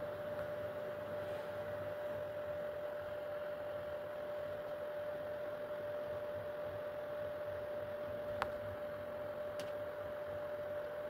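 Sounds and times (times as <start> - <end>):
printer steady hum: 0.0 - 11.0.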